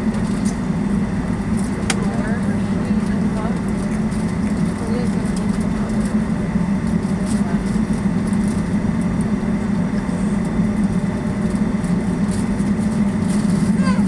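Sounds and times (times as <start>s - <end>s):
jet engine cabin drone: 0.0s - 14.0s.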